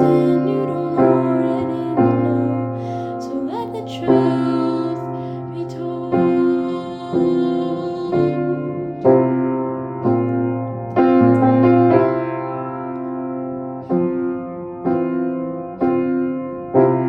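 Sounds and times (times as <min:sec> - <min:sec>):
solo piano slow chords: 0:00.0 - 0:17.0.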